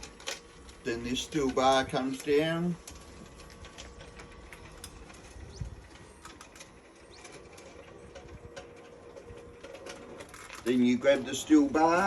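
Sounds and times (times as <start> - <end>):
electric lift whirring: 0.0 - 12.0.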